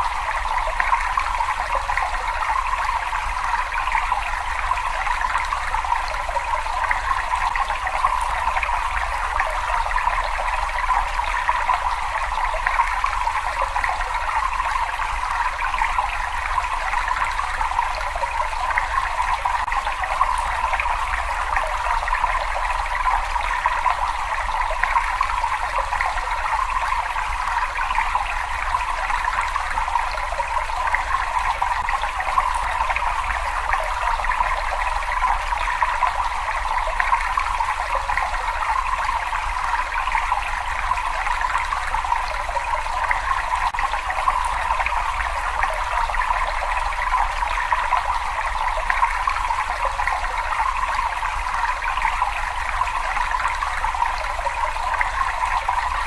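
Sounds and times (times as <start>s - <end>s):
water trickling and splashing: 0.0s - 56.0s.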